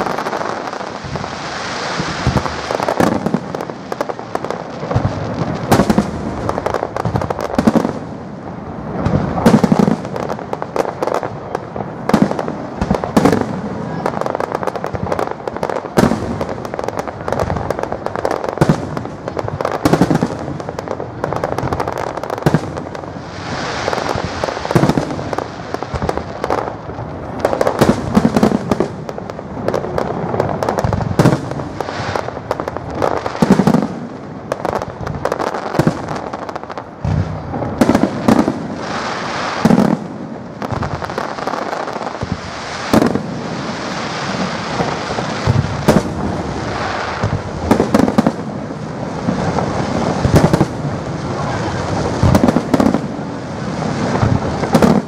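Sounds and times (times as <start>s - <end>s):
fireworks bursting: 0.0s - 55.0s
hissing crackle: 0.0s - 55.0s.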